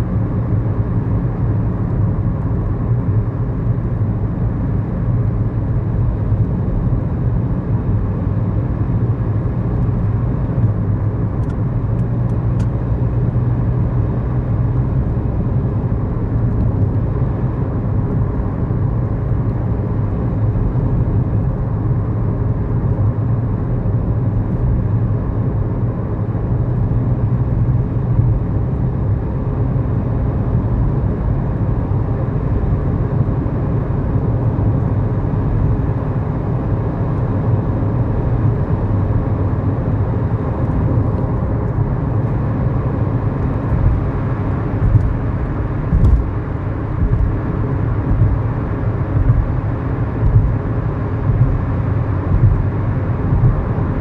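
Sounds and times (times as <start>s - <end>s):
in-cabin engine and road noise: 0.0s - 54.0s.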